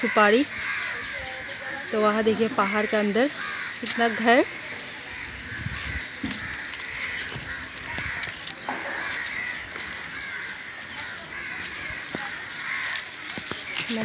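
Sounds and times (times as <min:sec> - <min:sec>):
birds calling in chorus: 0:00.0 - 0:14.0.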